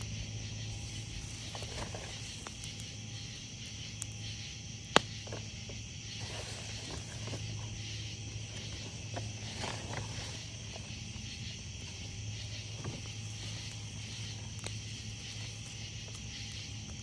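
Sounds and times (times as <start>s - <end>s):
campfire crackling: 0.0s - 17.0s
crickets chirring: 0.0s - 17.0s.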